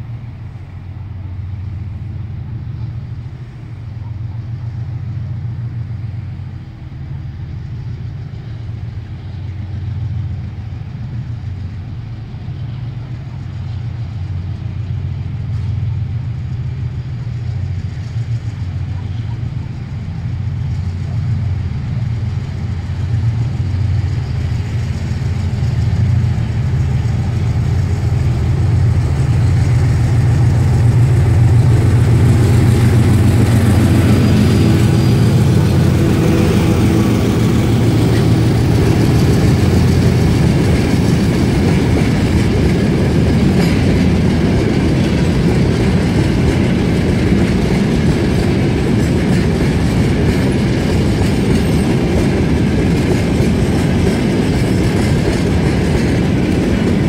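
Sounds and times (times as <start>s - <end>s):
diesel locomotive engine drone: 0.0s - 57.0s
train wagons rolling on rails: 0.0s - 57.0s.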